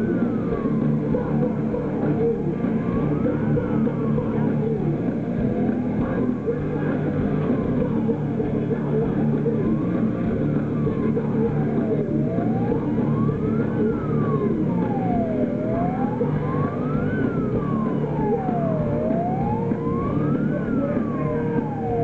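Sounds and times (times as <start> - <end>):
crowd noise: 0.0 - 22.0
wailing siren: 0.0 - 22.0.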